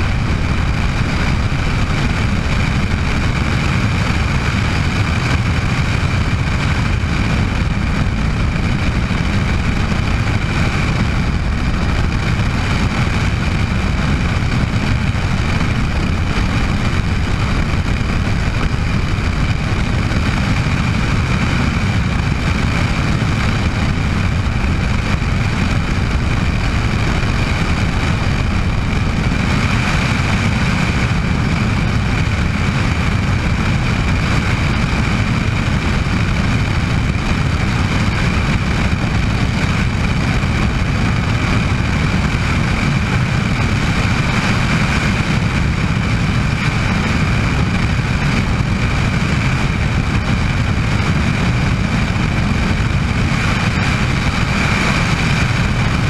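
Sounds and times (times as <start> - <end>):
helicopter rotor chopping: 0.0 - 56.0
high engine whine: 0.0 - 56.0.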